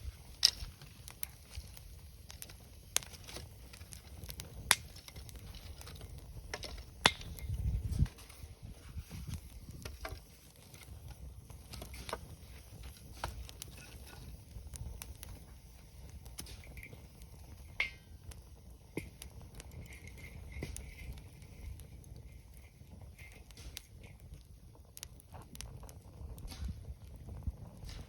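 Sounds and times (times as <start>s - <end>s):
campfire crackling and popping: 0.0s - 28.0s
wind rumble on microphone: 0.0s - 28.0s.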